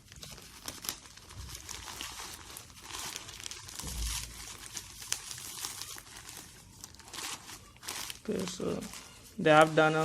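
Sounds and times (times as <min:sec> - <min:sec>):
packaging crinkling and tearing: 0:00.0 - 0:10.0.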